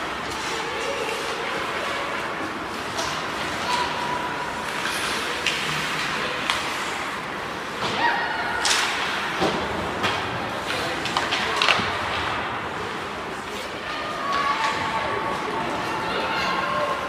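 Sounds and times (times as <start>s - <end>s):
hockey sticks and puck clacking: 0.0s - 16.0s.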